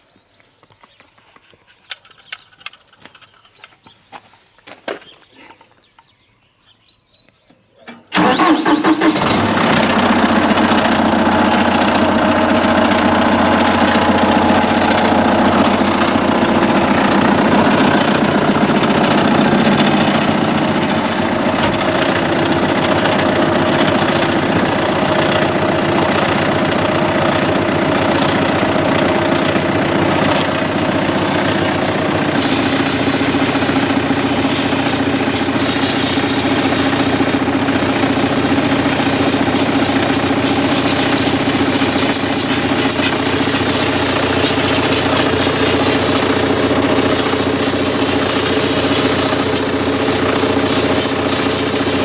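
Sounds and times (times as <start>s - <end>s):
tractor diesel engine starting and idling: 7.9s - 52.0s.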